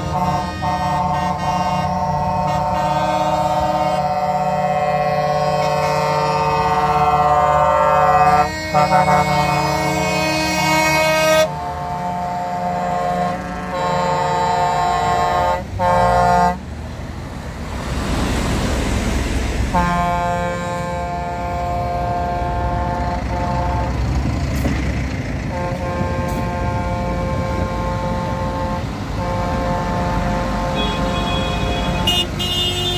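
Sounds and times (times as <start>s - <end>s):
truck horns blasting: 0.0s - 16.7s, 19.6s - 32.9s
dump truck engine and tyres rumbling: 0.0s - 32.9s.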